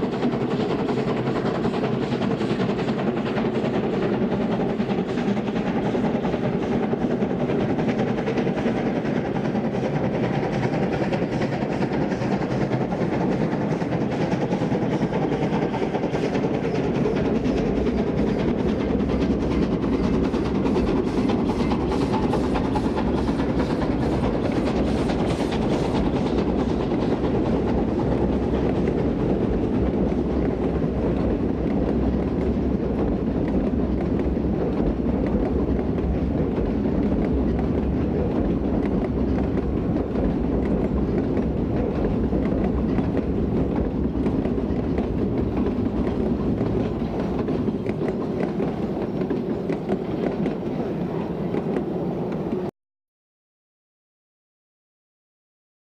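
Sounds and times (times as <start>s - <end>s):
steam locomotive exhaust beats: 0.0s - 52.7s.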